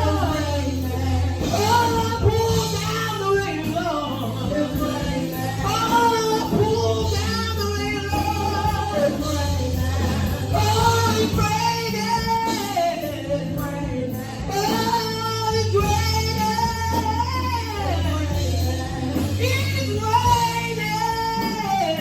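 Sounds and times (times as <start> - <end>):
instrumental backing music: 0.0 - 22.0
woman singing gospel: 0.0 - 22.0.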